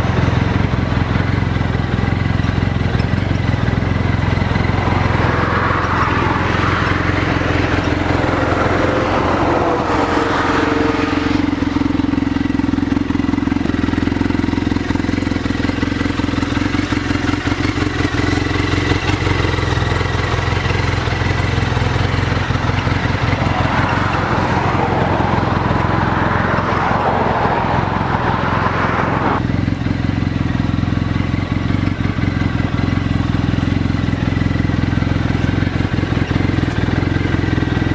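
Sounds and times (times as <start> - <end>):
engine running low hum: 0.0 - 37.9.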